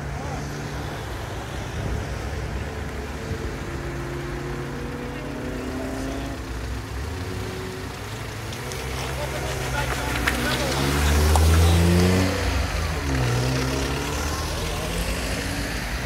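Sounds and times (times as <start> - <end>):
cars driving slowly past: 0.0 - 16.0.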